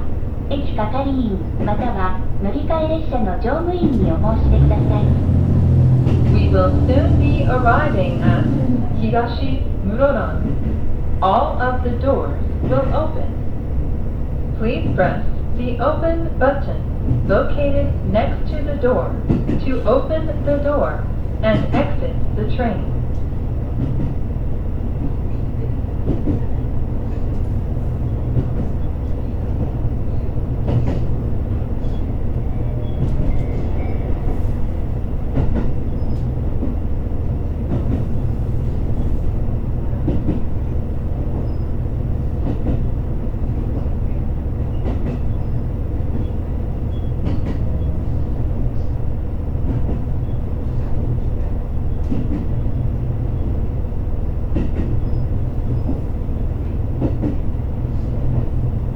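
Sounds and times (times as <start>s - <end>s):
railcar engine and wheels rumbling: 0.0s - 58.9s.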